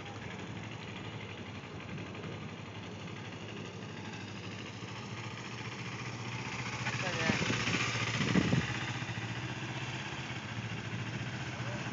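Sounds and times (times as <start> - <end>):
motorcycle engine at low revs: 0.0 - 11.9.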